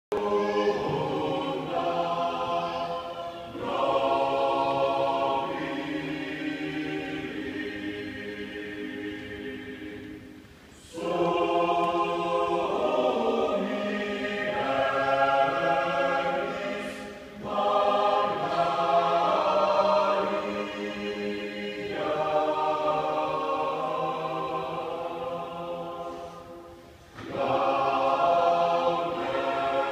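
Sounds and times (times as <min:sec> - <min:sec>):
choir singing a hymn: 0:00.1 - 0:29.9.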